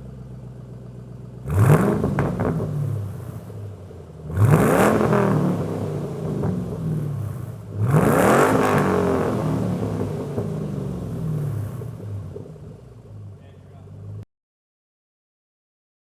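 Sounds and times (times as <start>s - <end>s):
car engine idling: 0.0s - 14.2s
car engine revving: 1.4s - 14.2s.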